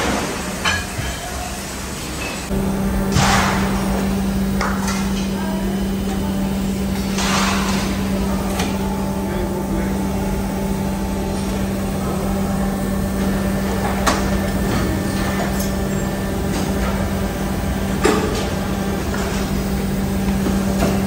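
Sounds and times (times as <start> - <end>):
hydraulic machine hum: 1.6 - 21.0.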